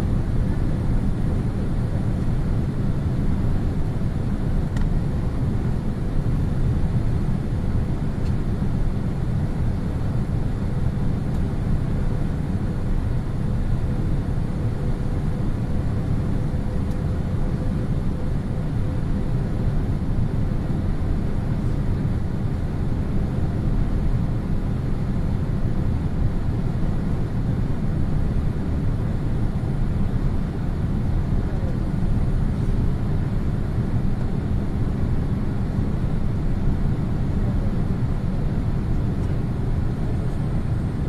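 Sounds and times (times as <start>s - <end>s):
engines and rushing air rumble: 0.0s - 41.0s.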